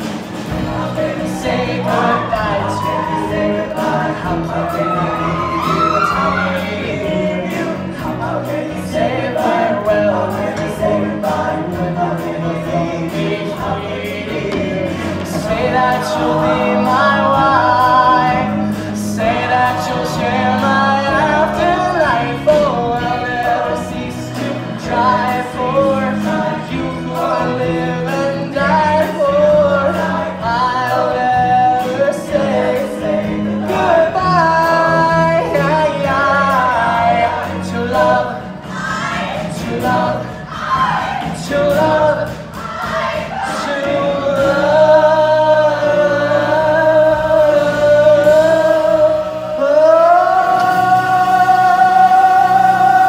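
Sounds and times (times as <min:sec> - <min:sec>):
cast singing in chorus: 0:00.5 - 0:53.0.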